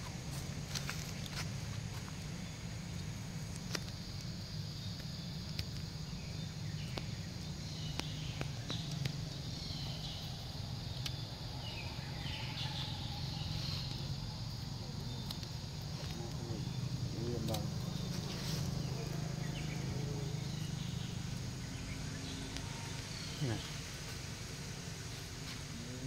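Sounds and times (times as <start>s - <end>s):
steady low hum: 0.0s - 26.0s
high chirping calls: 4.8s - 26.0s.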